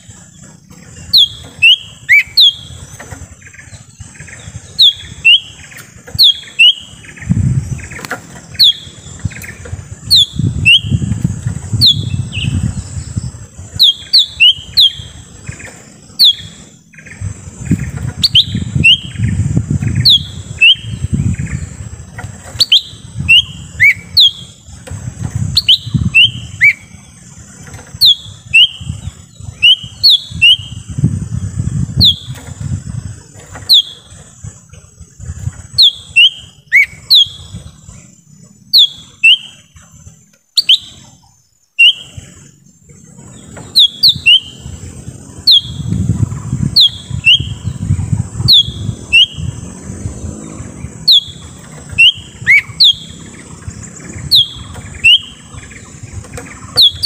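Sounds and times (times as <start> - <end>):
bird whistling downward notes: 0.0 - 24.8, 25.5 - 32.6, 33.5 - 34.2, 35.7 - 37.7, 38.7 - 39.8, 40.5 - 42.6, 43.3 - 46.0, 46.7 - 57.0.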